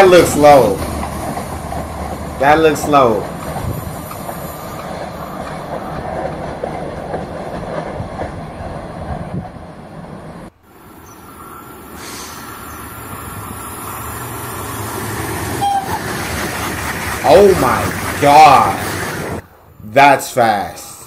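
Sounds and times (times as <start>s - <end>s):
high-speed train rumble: 0.0s - 19.8s
approaching train rail noise: 0.0s - 21.0s.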